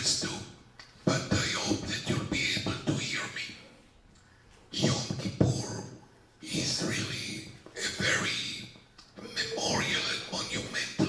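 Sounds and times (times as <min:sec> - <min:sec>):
man speaking into a microphone: 0:00.0 - 0:03.6, 0:04.7 - 0:11.0.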